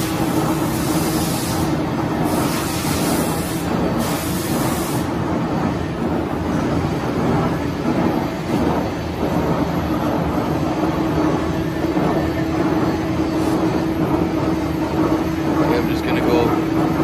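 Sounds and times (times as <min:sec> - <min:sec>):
boring mill running: 0:00.0 - 0:17.0.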